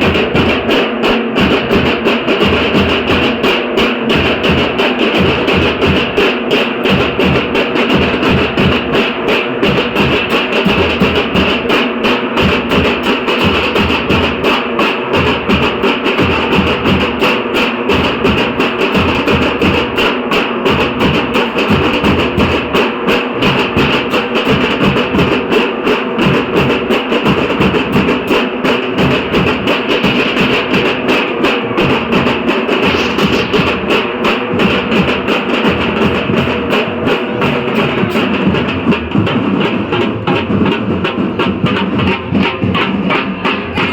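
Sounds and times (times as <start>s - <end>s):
deep dhol drum strokes: 0.0s - 43.9s
sharp rapid tasha drums: 0.0s - 43.9s.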